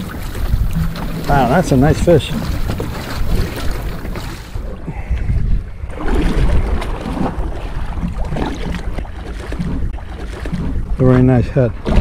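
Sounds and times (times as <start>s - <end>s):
water lapping against boat hull: 0.0s - 12.0s
wind rumbling on microphone: 0.0s - 12.0s.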